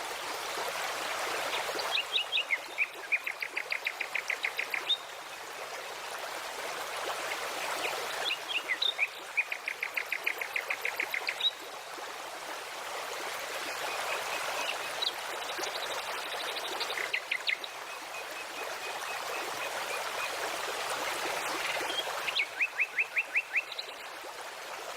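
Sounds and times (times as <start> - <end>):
flowing water: 0.0 - 24.9.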